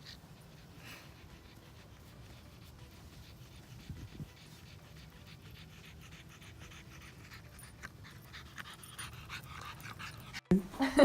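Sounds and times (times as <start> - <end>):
dog panting quickly: 0.0 - 10.5.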